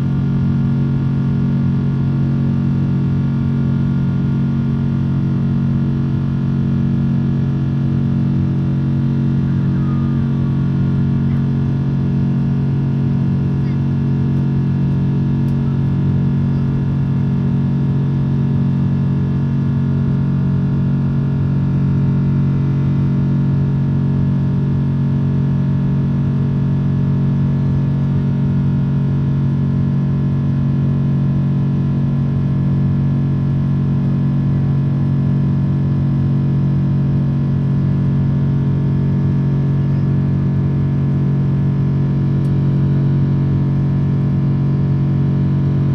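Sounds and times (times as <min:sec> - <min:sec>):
jet engines droning in cabin: 0:00.1 - 0:45.9.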